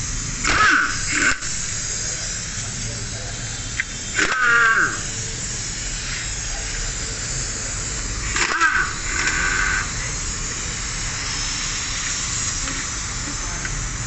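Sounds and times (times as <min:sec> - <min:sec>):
power ratchet whirring: 0:00.0 - 0:14.0
workshop noise: 0:00.0 - 0:14.0.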